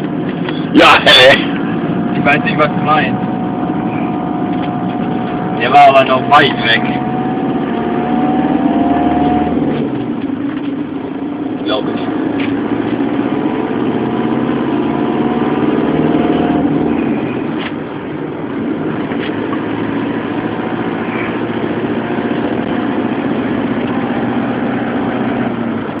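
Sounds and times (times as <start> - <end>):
engine and road noise: 0.0 - 26.0.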